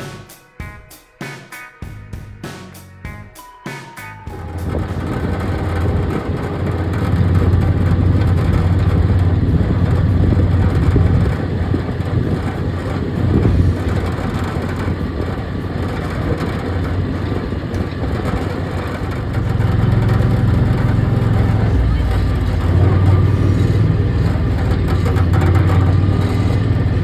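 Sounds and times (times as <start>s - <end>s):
heavy vehicle engine under load: 4.4s - 27.0s.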